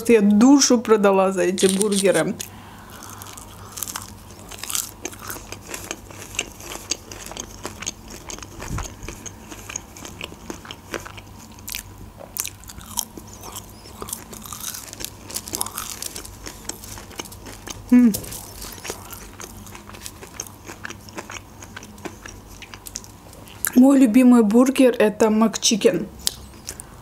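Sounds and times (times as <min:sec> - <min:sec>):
crunchy chewing: 0:01.6 - 0:23.8, 0:26.2 - 0:27.0.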